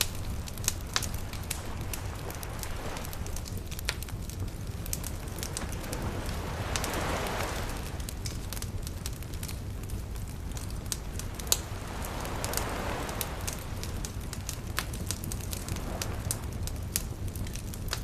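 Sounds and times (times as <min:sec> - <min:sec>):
low rumble: 0:00.0 - 0:14.6
gentle waves washing in: 0:00.0 - 0:18.0
wood fire crackling and popping: 0:00.0 - 0:18.0.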